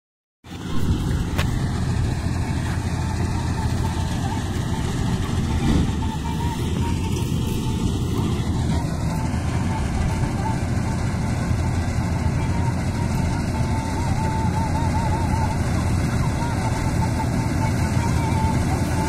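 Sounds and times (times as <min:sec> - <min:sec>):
combine harvester engine drone: 0:00.5 - 0:19.0
wavering whistle-like tone: 0:00.5 - 0:19.0.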